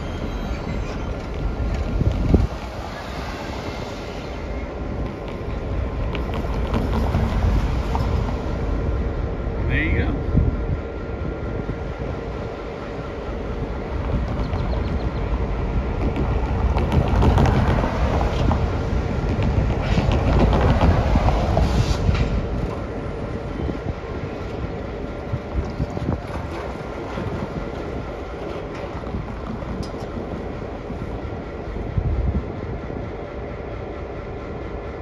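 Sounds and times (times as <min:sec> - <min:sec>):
wheels clanking on rails: 0:00.0 - 0:09.4, 0:12.9 - 0:35.0
diesel locomotive rumbling: 0:00.0 - 0:35.0.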